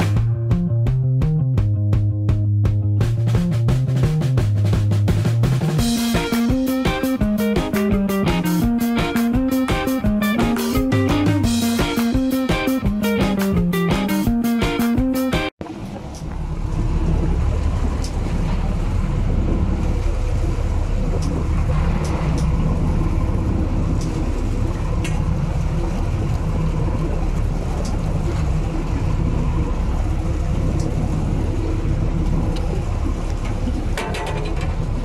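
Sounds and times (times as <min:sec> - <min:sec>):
marine engine running: 0:00.0 - 0:35.0.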